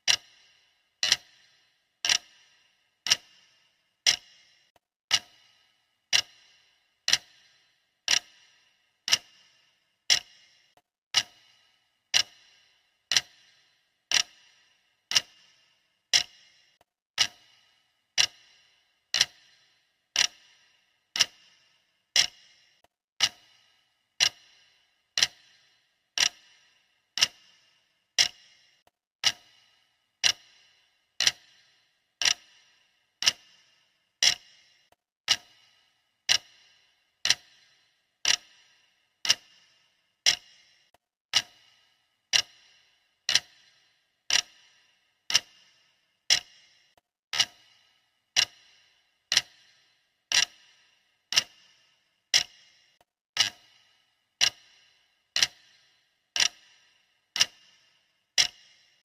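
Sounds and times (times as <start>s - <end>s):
clock ticking: 0.0s - 59.0s.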